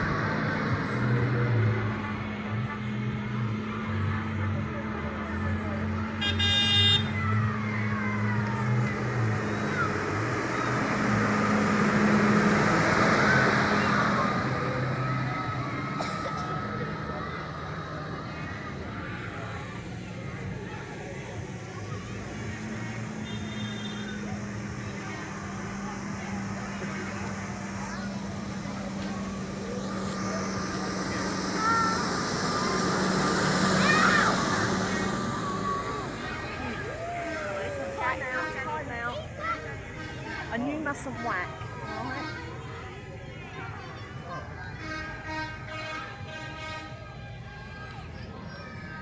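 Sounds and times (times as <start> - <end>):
tractor engines humming: 0.0 - 49.0.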